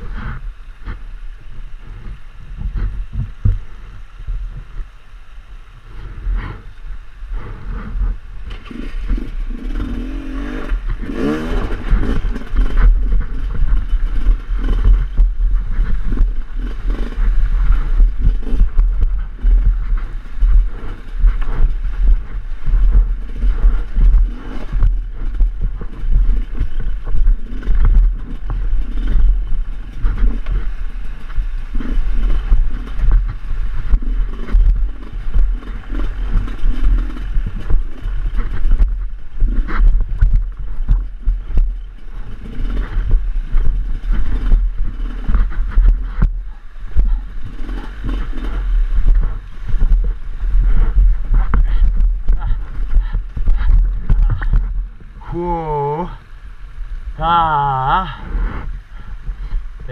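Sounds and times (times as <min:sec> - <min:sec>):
dirt bike engine revving: 0:05.8 - 0:59.9.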